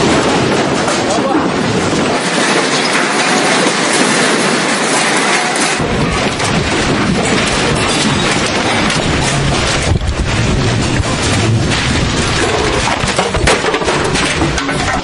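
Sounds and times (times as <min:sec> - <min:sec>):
deep rumble: 0:00.0 - 0:15.0
floodwater rushing with debris: 0:00.0 - 0:15.0.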